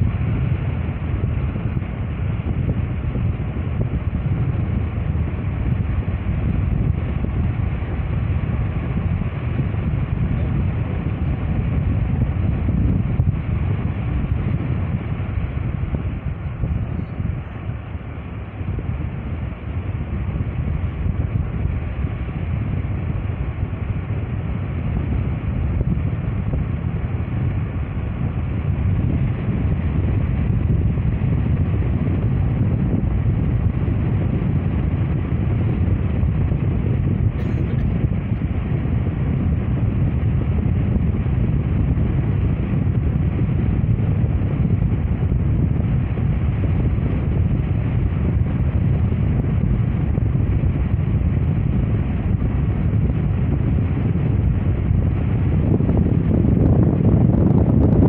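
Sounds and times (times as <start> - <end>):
car interior road and wind noise: 0.0 - 58.0.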